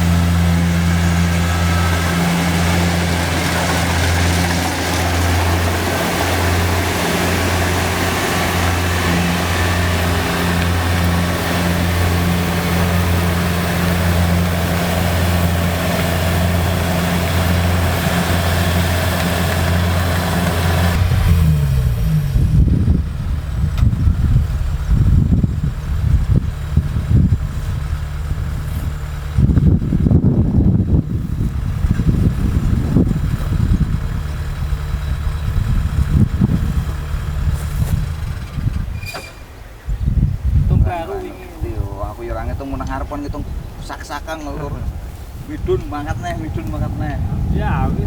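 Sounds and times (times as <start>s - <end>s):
uneven low rumble: 0.0s - 39.0s, 42.2s - 48.0s
combine harvester engine hum: 0.0s - 48.0s.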